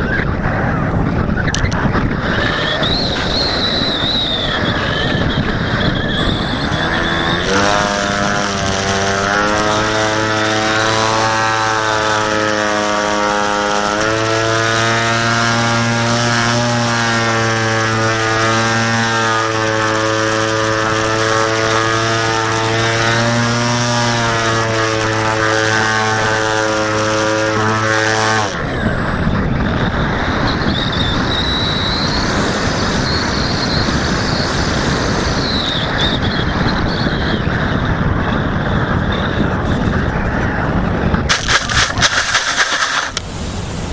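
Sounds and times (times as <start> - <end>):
wind rushing over airframe: 0.0 - 42.4
electric motor and propeller whirring: 0.0 - 43.9.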